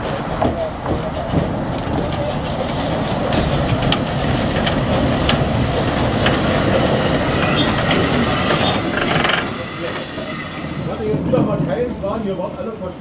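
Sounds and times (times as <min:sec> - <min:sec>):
wheels clicking and knocking on rails: 0:00.0 - 0:12.8
steam train rumbling past: 0:00.0 - 0:13.0.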